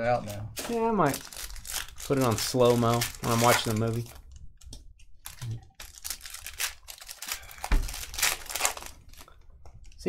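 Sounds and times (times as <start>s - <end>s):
plastic wrappers crinkling: 0.2s - 10.0s.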